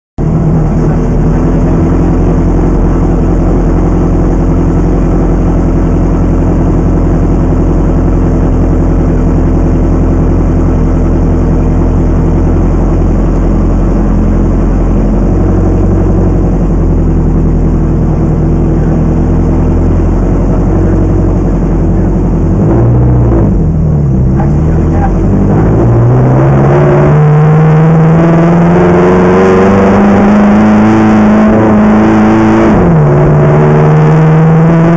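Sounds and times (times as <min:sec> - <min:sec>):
race car engine accelerating: 0:00.2 - 0:34.9.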